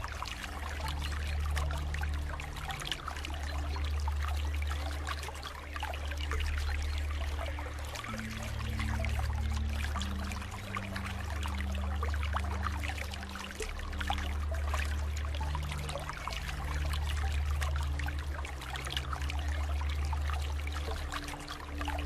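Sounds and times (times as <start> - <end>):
low sustained hum: 0.0 - 22.0
water trickling and splashing: 0.0 - 22.0.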